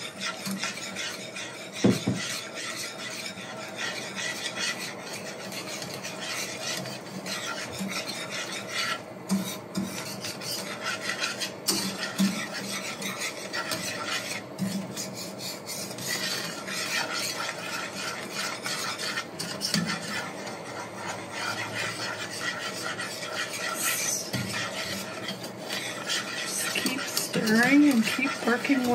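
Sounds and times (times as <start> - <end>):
whisk scraping a pan: 0.0 - 28.9.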